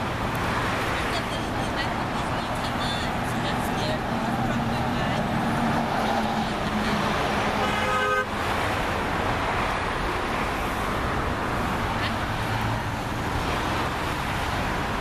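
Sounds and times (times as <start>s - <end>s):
road traffic of passing cars: 0.0s - 15.0s.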